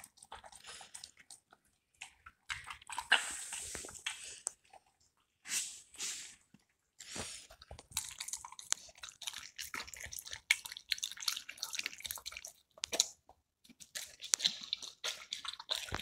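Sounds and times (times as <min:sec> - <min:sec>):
dog chewing wet food: 0:00.0 - 0:05.1, 0:07.5 - 0:16.0.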